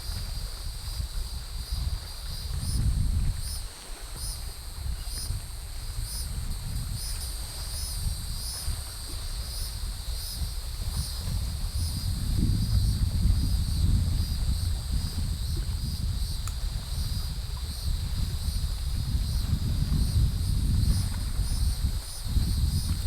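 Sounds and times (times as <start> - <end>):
insects chorus: 0.0 - 23.0
wind rumble on microphone: 0.0 - 23.0.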